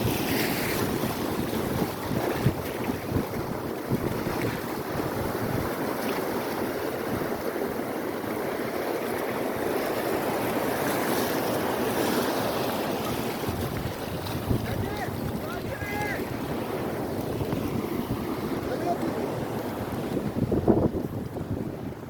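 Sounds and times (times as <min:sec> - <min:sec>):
wind on microphone: 0:00.0 - 0:08.0, 0:10.5 - 0:22.0.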